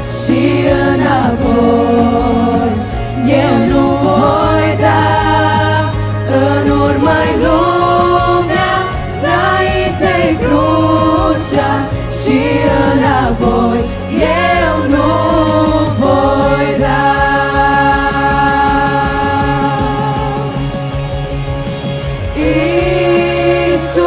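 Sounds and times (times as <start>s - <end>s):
girls choir singing: 0.0s - 20.7s, 22.4s - 24.0s
instrumental accompaniment: 0.0s - 24.0s.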